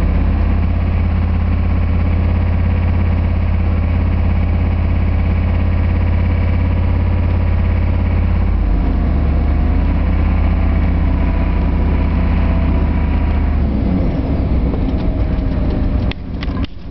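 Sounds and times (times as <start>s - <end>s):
diesel engine drone in cab: 0.0s - 16.9s.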